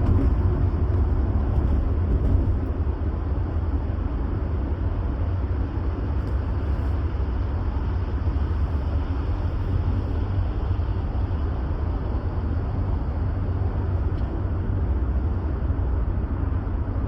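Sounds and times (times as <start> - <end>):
road vehicle rumbling: 0.0 - 17.0.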